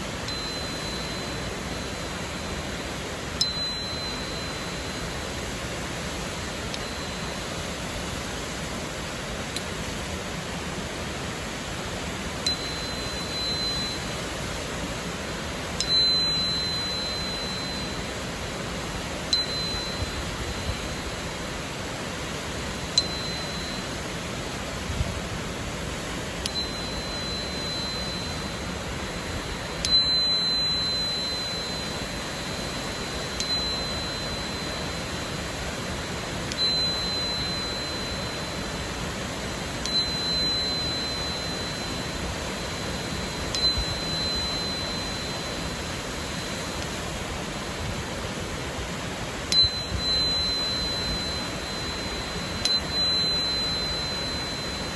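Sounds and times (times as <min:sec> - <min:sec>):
high pure ringing tone: 0:00.0 - 0:54.9.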